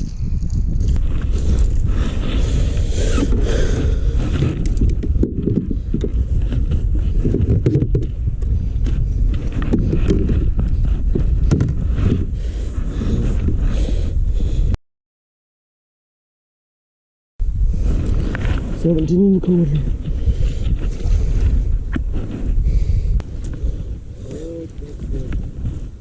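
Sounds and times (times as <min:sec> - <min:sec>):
wind and water rumble on microphone: 0:00.0 - 0:14.8, 0:17.4 - 0:26.0.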